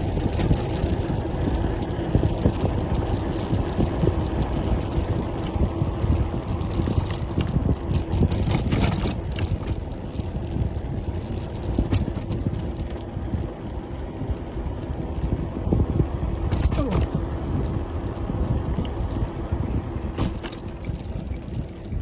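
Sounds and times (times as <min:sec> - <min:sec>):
bicycle rattling on rough road: 0:00.0 - 0:22.0.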